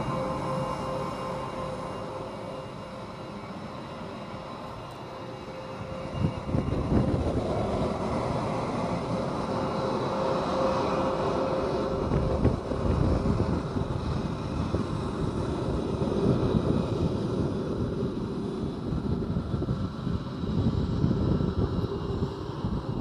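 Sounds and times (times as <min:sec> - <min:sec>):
jet engines whining: 0:00.0 - 0:23.0
jet taxiing past rumble: 0:00.0 - 0:23.0.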